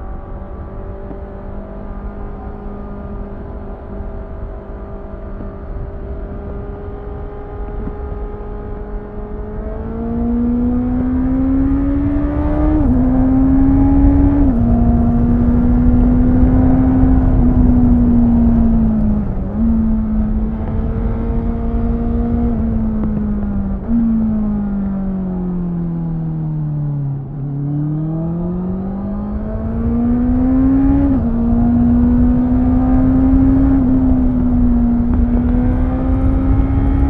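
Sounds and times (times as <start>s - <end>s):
wind on microphone: 0.0s - 24.7s, 28.2s - 37.0s
motorcycle engine accelerating: 0.0s - 37.0s.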